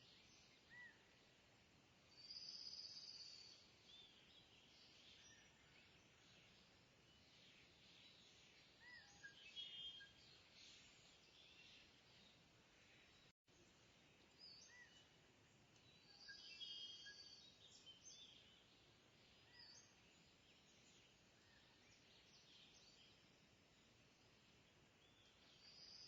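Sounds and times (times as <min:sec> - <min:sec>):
low background hiss: 0:00.0 - 0:26.0
birds chirping and trilling: 0:02.2 - 0:26.0.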